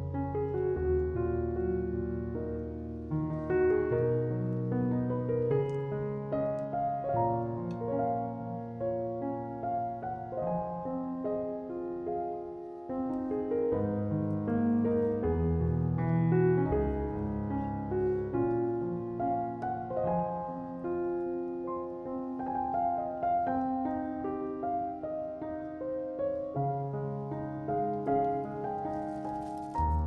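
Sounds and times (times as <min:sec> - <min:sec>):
gentle piano music: 0:00.0 - 0:30.0.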